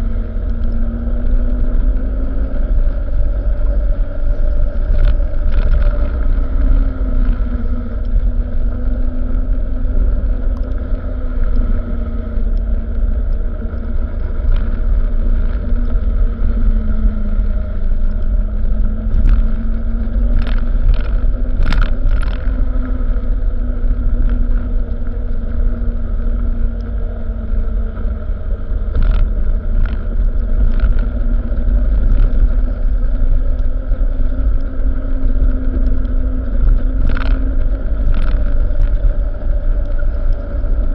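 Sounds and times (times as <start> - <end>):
truck engine rumbling: 0.0 - 40.9.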